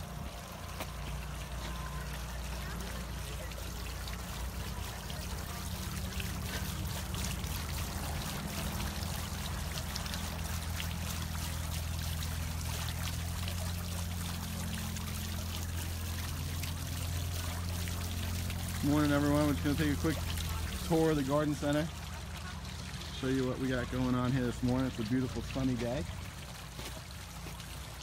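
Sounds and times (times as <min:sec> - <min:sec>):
fountain water trickling and splashing: 0:00.0 - 0:28.0.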